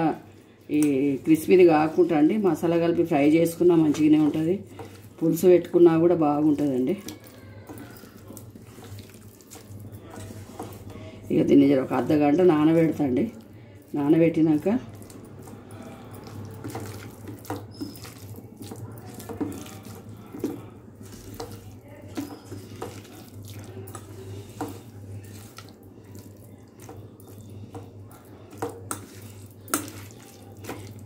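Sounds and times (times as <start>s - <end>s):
squelching of wet marinade: 0.0s - 31.0s.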